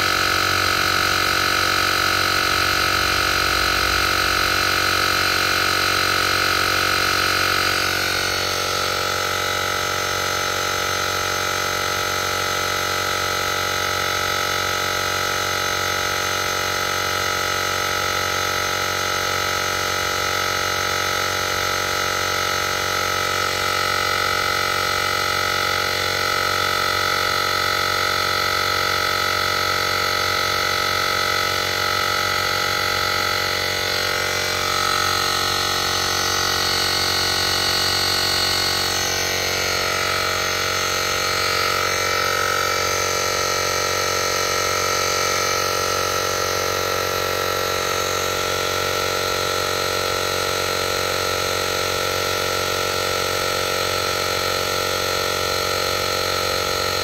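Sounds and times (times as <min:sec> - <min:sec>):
air compressor whining drone: 0:00.0 - 0:57.0.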